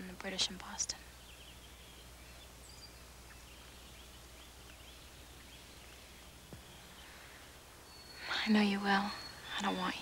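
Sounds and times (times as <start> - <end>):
faint birds chirping: 0.0 - 10.0
steady low hum: 0.0 - 10.0.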